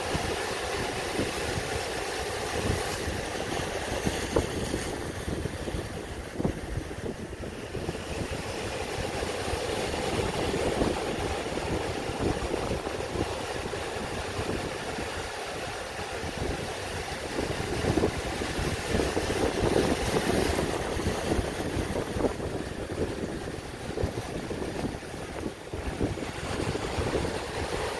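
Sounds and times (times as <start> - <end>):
wind buffeting microphone: 0.0 - 27.9
small waves breaking on rocks: 0.1 - 27.9.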